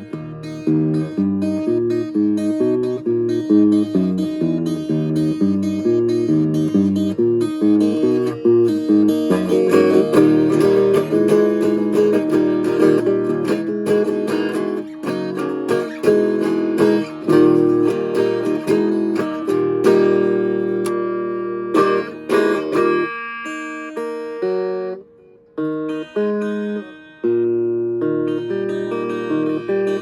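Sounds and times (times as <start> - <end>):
clean solo guitar: 0.0 - 30.0.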